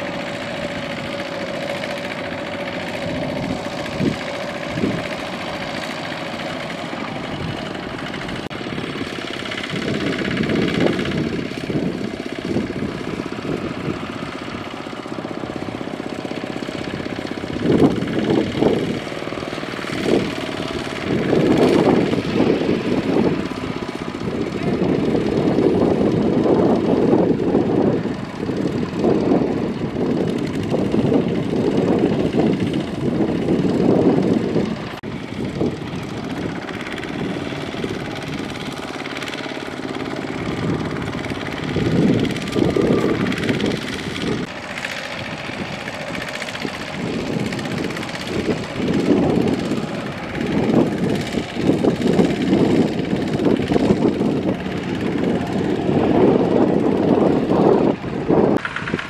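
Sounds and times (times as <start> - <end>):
diesel engine straining: 0.0 - 59.0.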